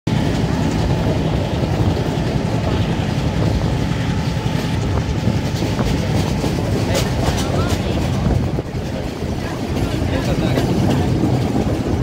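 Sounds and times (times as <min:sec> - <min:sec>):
train wheels rumbling on rail: 0:00.1 - 0:12.0.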